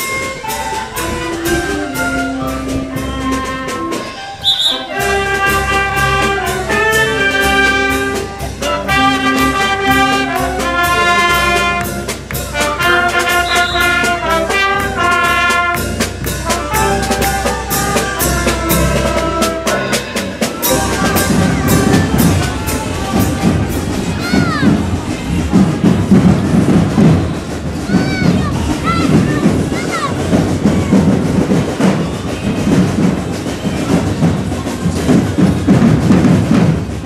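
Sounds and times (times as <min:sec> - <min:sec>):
brass band playing a march: 0:00.0 - 0:37.0
crowd noise: 0:00.0 - 0:37.0.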